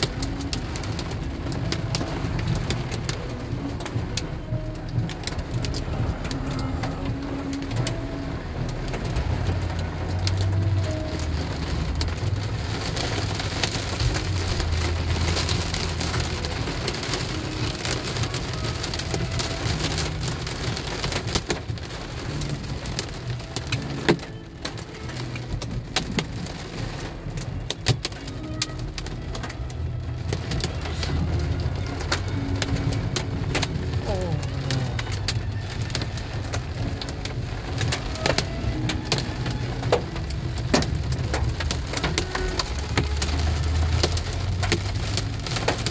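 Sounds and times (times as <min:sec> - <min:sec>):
heavy rain on a car roof: 0:00.0 - 0:45.9.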